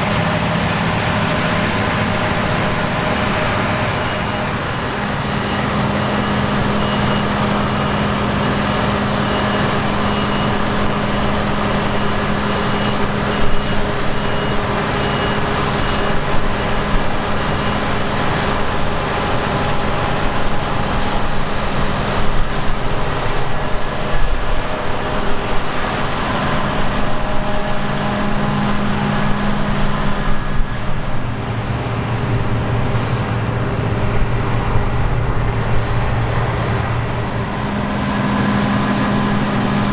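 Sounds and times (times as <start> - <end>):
combine harvester and tractor engines: 0.0 - 39.9
deeper engine tone: 0.0 - 39.9.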